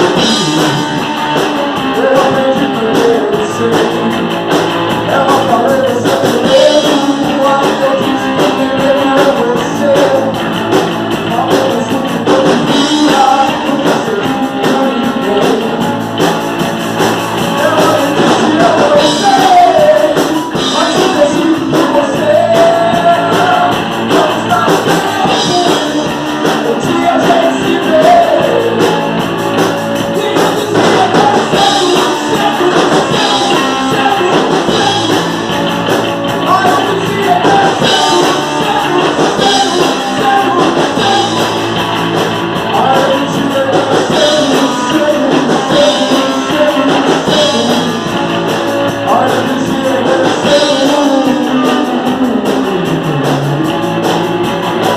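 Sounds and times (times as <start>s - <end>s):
person singing: 0.0s - 16.2s, 17.4s - 54.9s
bass guitar: 0.0s - 54.9s
distorted electric guitars: 0.0s - 54.9s
drums: 0.0s - 54.9s.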